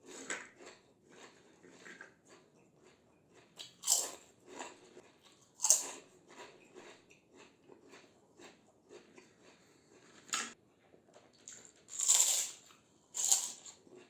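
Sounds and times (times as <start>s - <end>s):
crispy snack crunching: 0.0s - 10.4s, 11.2s - 14.0s
chewing crackling crunches: 0.0s - 14.0s.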